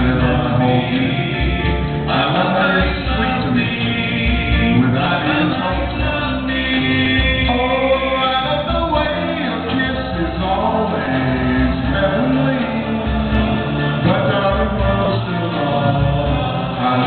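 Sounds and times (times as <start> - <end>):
backing vocal harmonies: 0.0 - 17.0
live band playing pop: 0.0 - 17.0
male lead vocal: 0.0 - 17.0.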